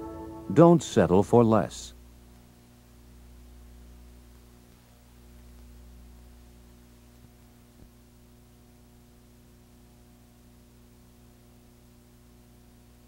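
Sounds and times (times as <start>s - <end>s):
faint hiss: 0.0s - 13.0s
low electrical hum: 0.0s - 13.0s.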